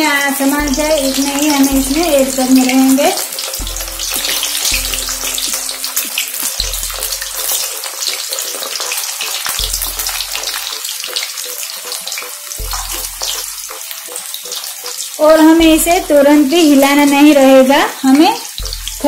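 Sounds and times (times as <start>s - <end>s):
vegetables deep-frying in oil: 0.0s - 19.0s.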